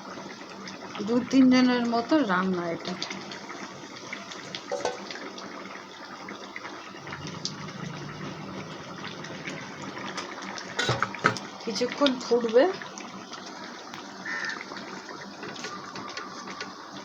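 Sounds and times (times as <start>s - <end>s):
broth boiling in a pan: 0.0s - 17.0s.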